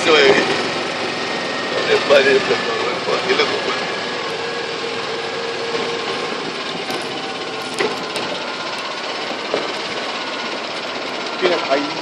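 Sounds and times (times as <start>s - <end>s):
cart rattles and clicks: 0.0s - 12.0s
golf cart driving: 0.0s - 12.0s.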